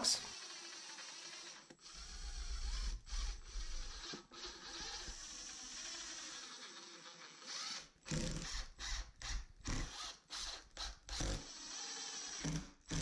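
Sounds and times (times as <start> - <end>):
cordless drill driving screws: 0.2 - 13.0.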